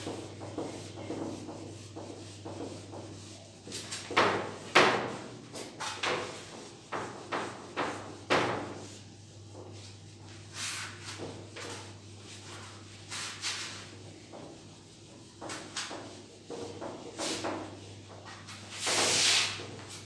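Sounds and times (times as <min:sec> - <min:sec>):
duster wiping a whiteboard: 0:00.0 - 0:20.0.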